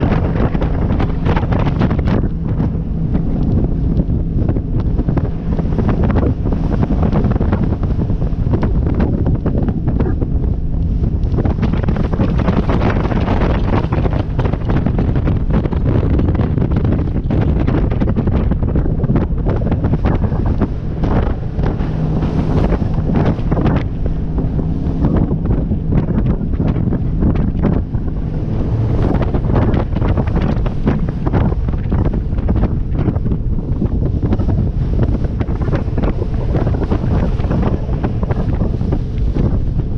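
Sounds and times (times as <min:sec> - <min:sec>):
boat engine drone: 0:00.0 - 0:39.9
motorboat running: 0:00.0 - 0:39.9
rushing water: 0:00.0 - 0:39.9
wind buffeting microphone: 0:00.0 - 0:39.9.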